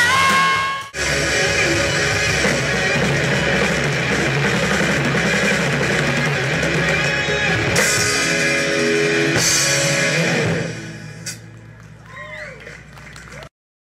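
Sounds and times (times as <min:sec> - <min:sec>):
drum kit: 0:00.0 - 0:11.6
electric guitars: 0:00.0 - 0:11.9
bass guitar: 0:00.0 - 0:13.5.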